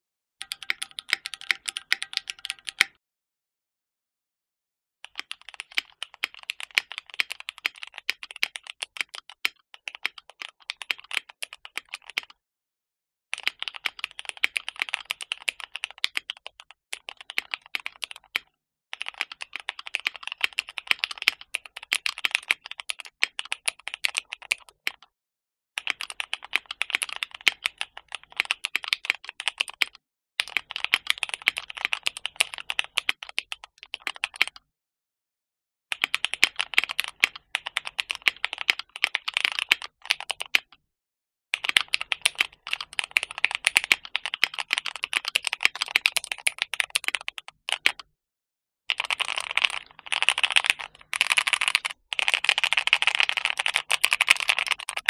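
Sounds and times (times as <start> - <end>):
mechanical keyboard typing: 0.4 - 3.0, 5.1 - 12.3, 13.4 - 18.4, 19.0 - 25.0, 25.8 - 34.6, 35.9 - 40.7, 41.6 - 48.1, 48.9 - 55.0.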